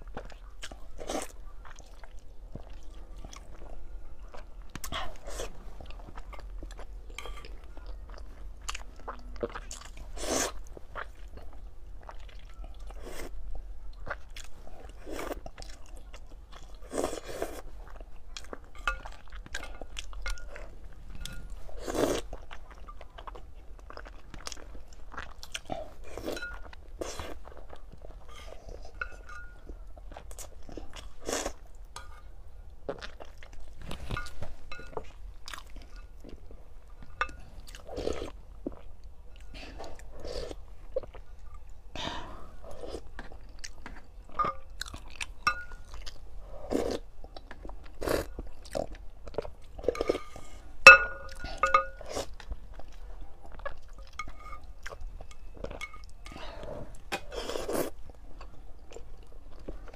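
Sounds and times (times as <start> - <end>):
person chewing: 0.0 - 32.2, 32.8 - 59.9.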